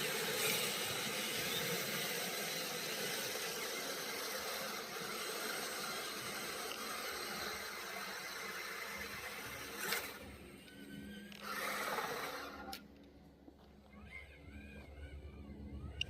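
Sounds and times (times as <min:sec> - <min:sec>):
electric motor and gears whirring: 0:00.0 - 0:16.0.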